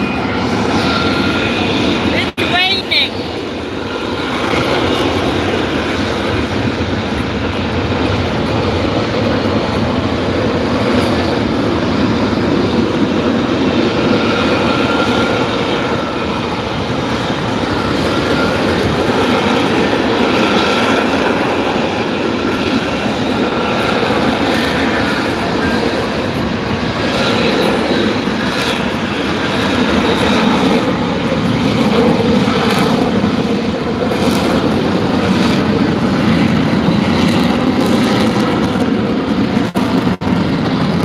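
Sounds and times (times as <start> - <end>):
loud jet engine roar: 0.0 - 41.0.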